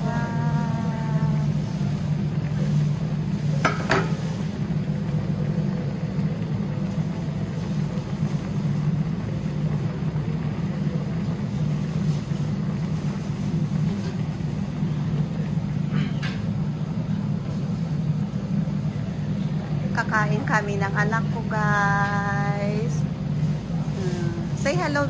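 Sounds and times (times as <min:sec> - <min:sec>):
cooktop humming: 0:00.0 - 0:25.0
pot bubbling: 0:00.0 - 0:25.0.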